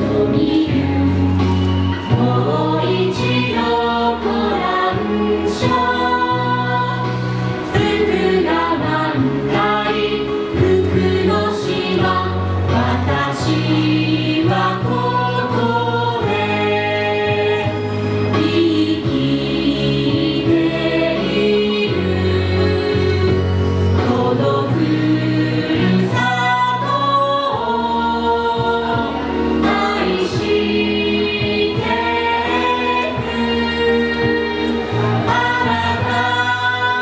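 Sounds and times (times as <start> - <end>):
instrumental backing with bass line: 0.0 - 37.0
voices singing together: 0.0 - 37.0.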